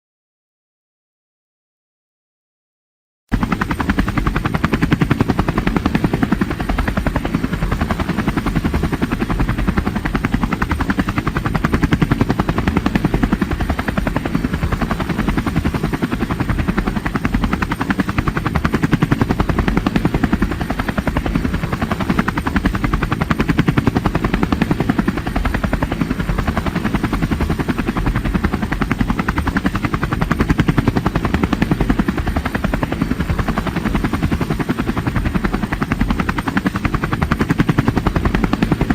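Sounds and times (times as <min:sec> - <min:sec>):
helicopter rotor chop: 0:03.3 - 0:38.9.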